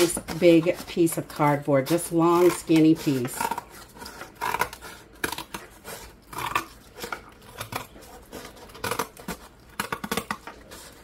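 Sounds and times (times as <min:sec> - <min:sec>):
scissors cutting cardboard: 0:00.0 - 0:11.0.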